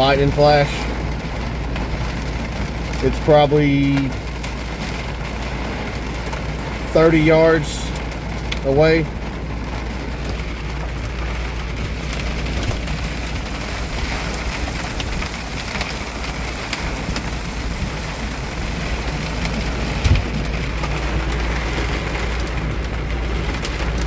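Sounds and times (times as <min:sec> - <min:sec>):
raindrops ticking: 0:00.0 - 0:24.0
wind buffeting truck cab: 0:00.0 - 0:24.0.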